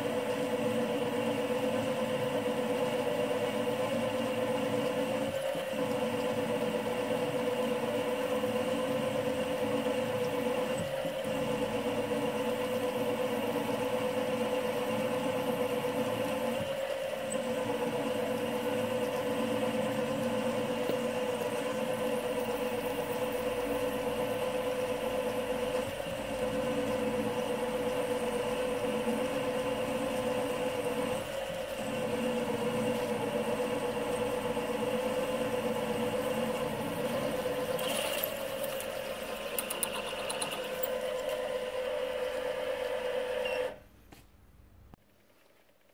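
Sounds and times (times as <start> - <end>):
mill spindle motor humming: 0.0 - 43.8.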